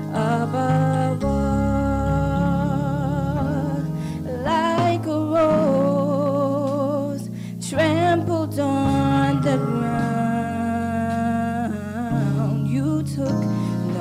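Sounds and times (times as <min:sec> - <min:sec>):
sustained instrumental accompaniment: 0:00.0 - 0:14.0
woman singing gospel song: 0:00.0 - 0:14.0.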